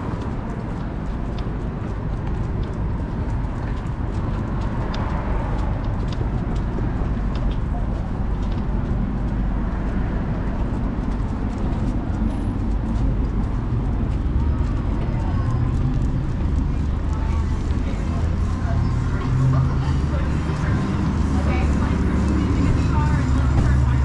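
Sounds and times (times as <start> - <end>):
footsteps on pavement: 0.0 - 24.0
low rumble of city traffic: 0.0 - 24.0.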